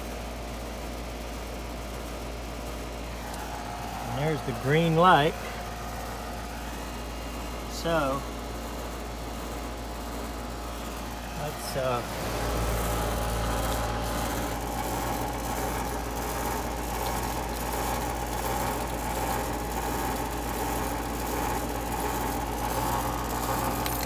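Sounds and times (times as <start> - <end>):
air conditioner compressor hum: 0.0 - 24.0
condenser fan whirring: 0.0 - 24.0.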